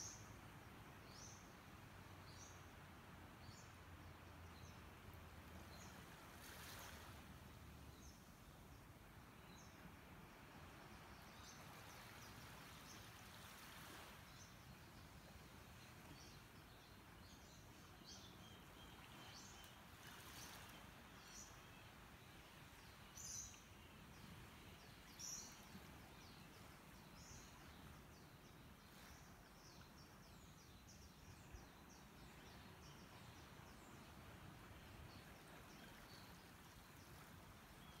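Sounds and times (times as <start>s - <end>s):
faint birds chirping: 0.0s - 38.0s
low steady hiss: 0.0s - 38.0s.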